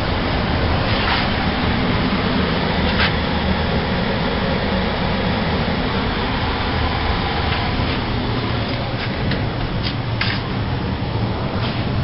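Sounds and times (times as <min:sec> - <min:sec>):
blower fan rushing air: 0:00.0 - 0:12.0
low hum: 0:00.0 - 0:12.0.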